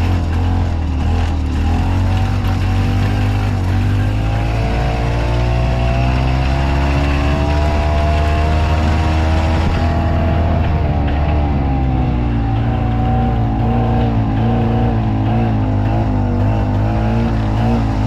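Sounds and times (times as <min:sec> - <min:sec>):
golf cart engine running: 0:00.0 - 0:18.0.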